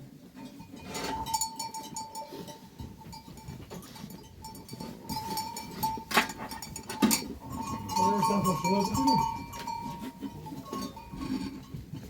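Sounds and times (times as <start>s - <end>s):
sheep and goat bells jingling: 0.2s - 12.0s.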